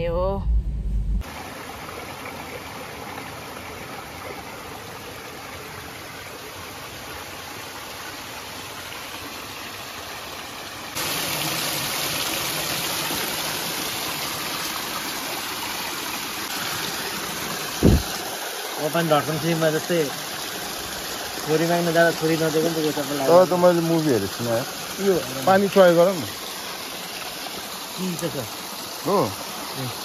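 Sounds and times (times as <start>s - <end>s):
water rushing in a stream: 1.2s - 30.0s.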